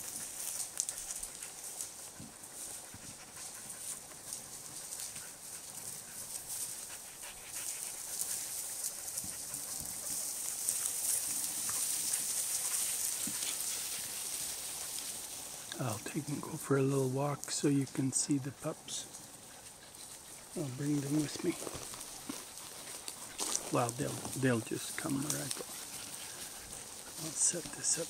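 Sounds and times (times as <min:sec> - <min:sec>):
dogs panting: 0:00.0 - 0:28.0
dogs scuffling through grass: 0:00.0 - 0:28.0.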